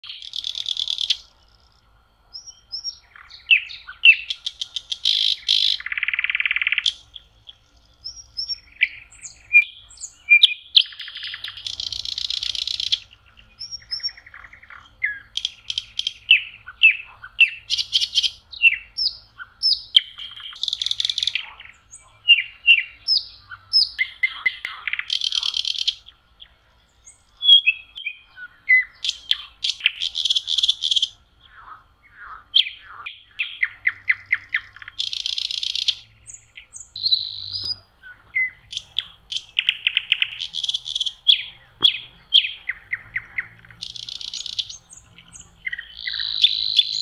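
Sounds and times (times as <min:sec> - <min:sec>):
nightingale singing: 0:00.0 - 0:47.0.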